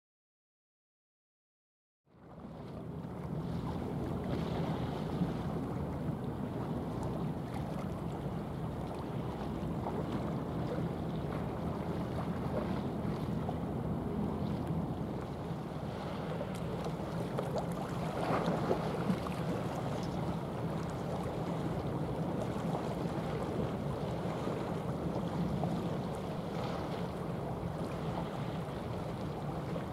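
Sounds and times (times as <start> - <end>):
choppy sea water: 2.1 - 29.9.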